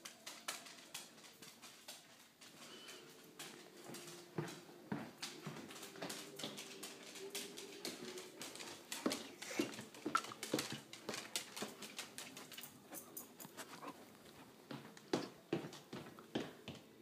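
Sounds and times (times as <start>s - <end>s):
dog claws clicking on hardwood: 0.0s - 2.7s, 5.2s - 16.9s.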